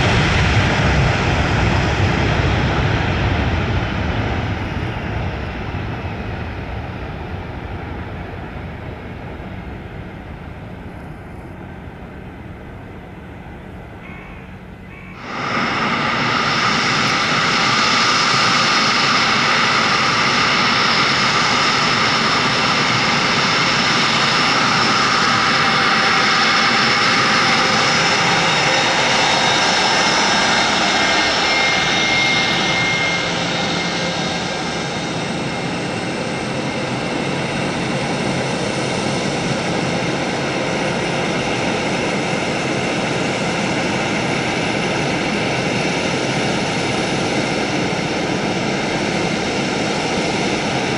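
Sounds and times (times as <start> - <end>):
jet engine roar with fan whine: 0.0 - 50.9.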